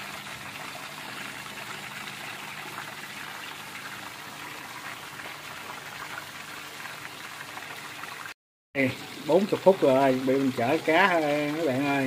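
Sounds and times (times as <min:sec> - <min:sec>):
hot oil sizzling and bubbling: 0:00.0 - 0:12.0.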